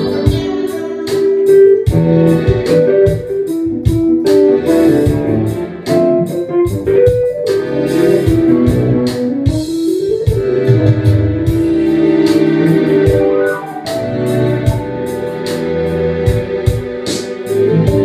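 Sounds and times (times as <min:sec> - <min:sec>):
bass line: 0:00.0 - 0:18.0
electric piano and organ chords: 0:00.0 - 0:18.0
percussive beat: 0:00.0 - 0:18.0.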